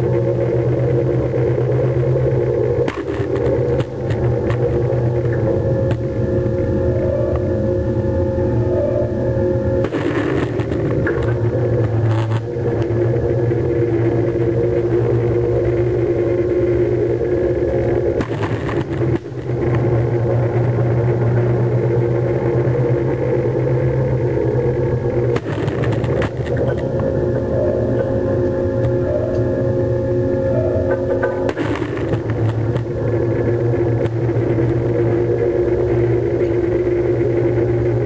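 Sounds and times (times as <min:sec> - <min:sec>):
engine droning steadily: 0:00.0 - 0:38.0.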